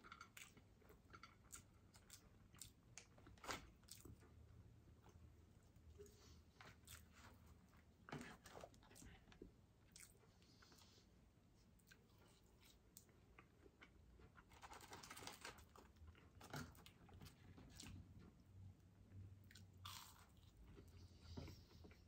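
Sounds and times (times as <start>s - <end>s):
faint chewing with crunches: 0.0s - 22.0s.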